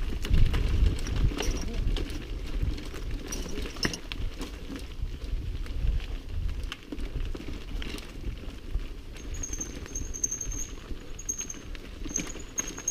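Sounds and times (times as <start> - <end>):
bike chain and frame rattling: 0.0 - 12.9
bike tyres rumbling on dirt: 0.0 - 12.9.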